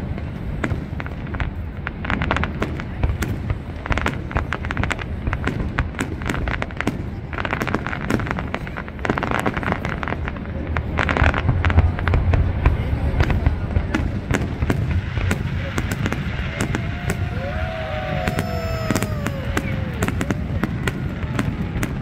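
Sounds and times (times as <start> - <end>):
fireworks crackling: 0.0 - 22.0.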